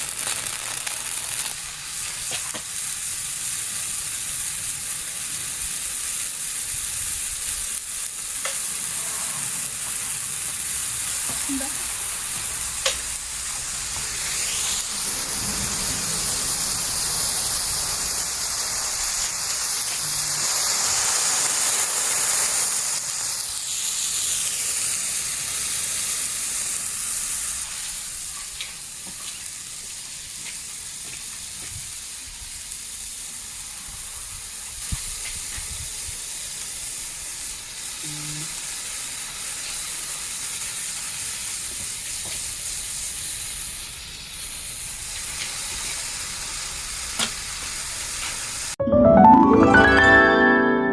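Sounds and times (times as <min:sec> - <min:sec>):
fireworks hissing sparks: 0:00.0 - 0:48.8.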